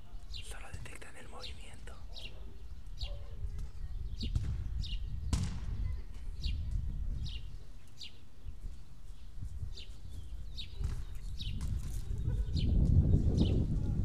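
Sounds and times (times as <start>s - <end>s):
low rumble on microphone: 0.0s - 7.8s, 8.6s - 14.0s
bird chirping: 0.0s - 13.7s.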